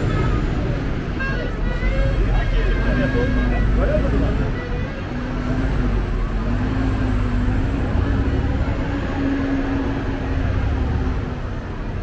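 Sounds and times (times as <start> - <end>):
road traffic noise: 0.0 - 12.0
vehicle engine humming: 0.0 - 12.0.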